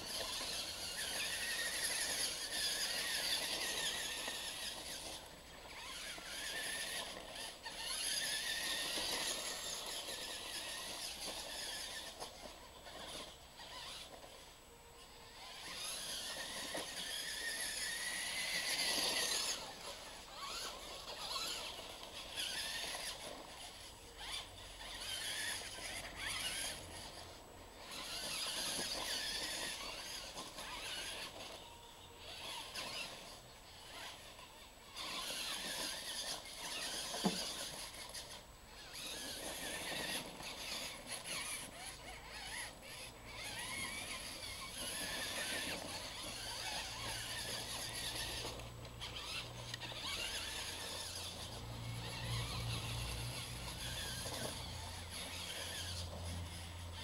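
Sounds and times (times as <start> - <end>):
rc truck motors whining: 0.0 - 57.0.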